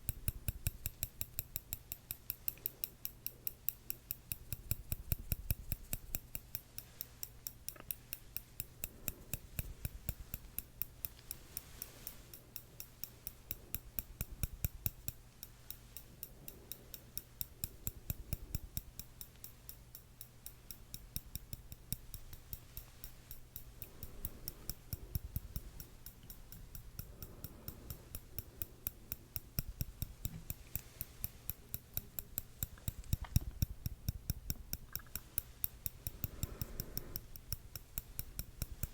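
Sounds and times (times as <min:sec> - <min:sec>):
metal tweezers clicking: 0:00.0 - 0:38.9.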